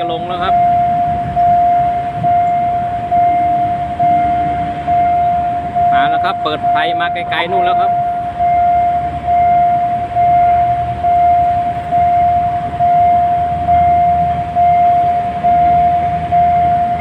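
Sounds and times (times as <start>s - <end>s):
level crossing warning tone: 0.0s - 17.0s.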